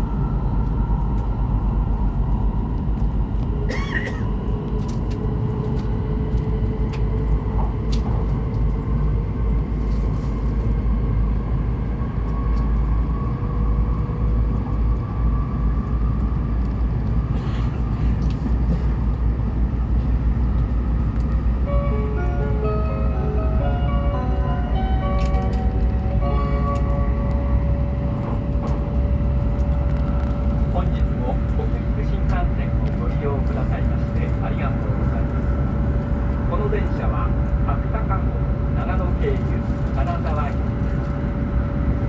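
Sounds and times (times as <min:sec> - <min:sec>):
train cabin rumble: 0:00.0 - 0:42.0.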